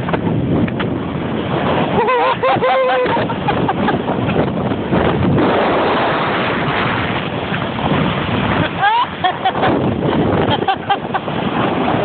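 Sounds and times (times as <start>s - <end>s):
sledge sliding on snow: 0.0s - 12.0s
wind on microphone: 0.0s - 12.0s.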